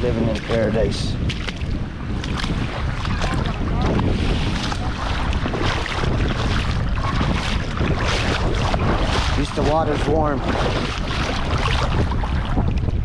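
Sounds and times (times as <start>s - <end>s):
surf breaking on shore: 0.0s - 13.0s
wind buffeting microphone: 0.0s - 13.0s.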